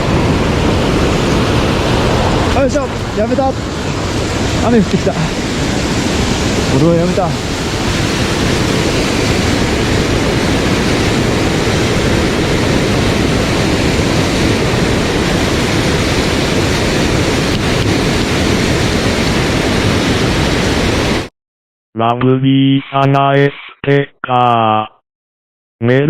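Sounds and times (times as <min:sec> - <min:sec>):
stream rushing over rocks: 0:00.0 - 0:21.3.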